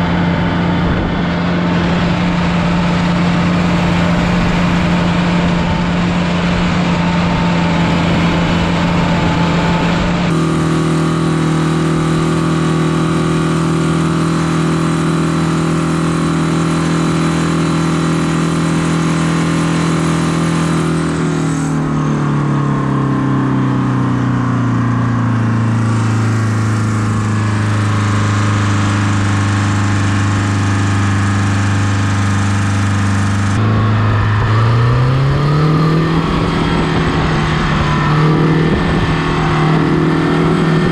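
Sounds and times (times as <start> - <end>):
tractor diesel engine running: 0.0 - 40.9
two-stroke diesel engine: 0.0 - 40.9.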